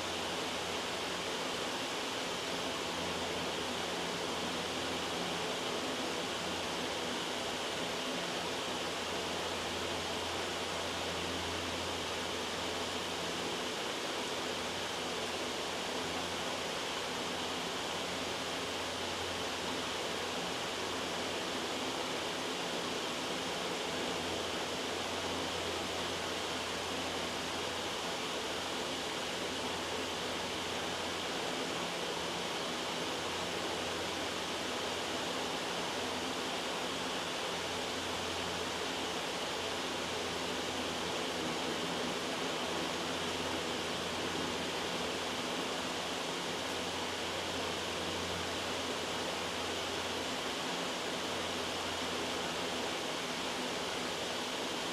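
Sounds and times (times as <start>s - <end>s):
loud white noise hiss: 0.0s - 54.9s.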